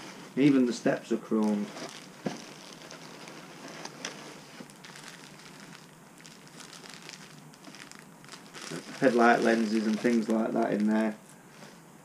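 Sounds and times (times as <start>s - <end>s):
plastic bags crinkling: 1.3s - 11.2s.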